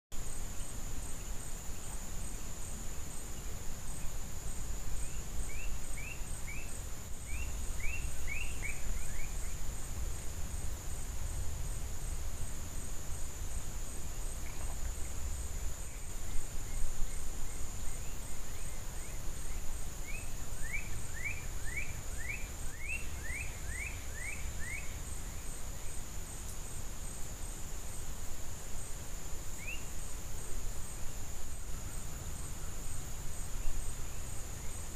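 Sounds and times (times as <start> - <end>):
insect chorus drone: 0.1 - 34.9
songbird singing: 0.1 - 34.9.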